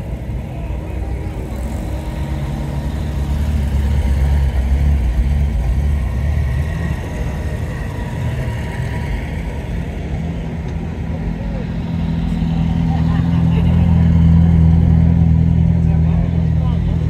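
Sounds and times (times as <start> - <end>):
cars driving past slowly: 0.0 - 17.0.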